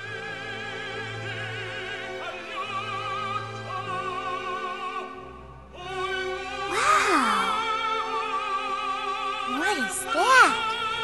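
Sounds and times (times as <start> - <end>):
operatic singing: 0.0 - 11.0.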